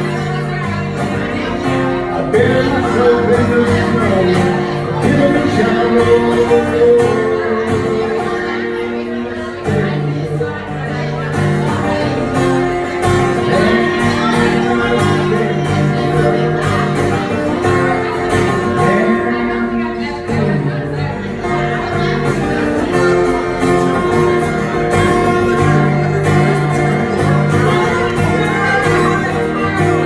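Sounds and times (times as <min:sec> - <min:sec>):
acoustic guitar strumming: 0:00.0 - 0:30.0
man singing: 0:00.0 - 0:30.0.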